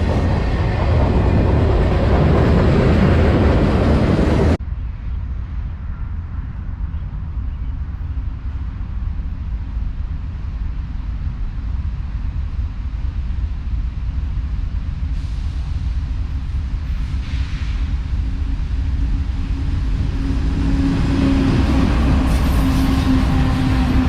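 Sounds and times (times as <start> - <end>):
freight train rumbling past: 0.0 - 7.6, 8.8 - 24.0.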